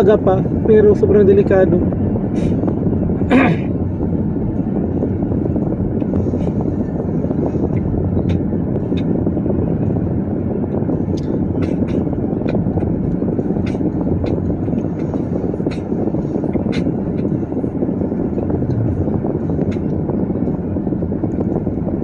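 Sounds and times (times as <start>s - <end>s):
road and wind rumble: 0.0s - 22.0s.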